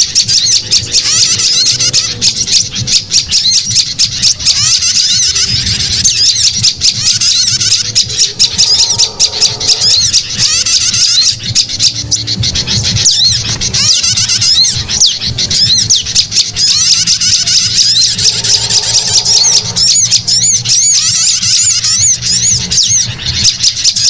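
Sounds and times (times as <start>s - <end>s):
low steady hum: 0.0s - 23.4s
songbirds chirping: 0.0s - 24.0s.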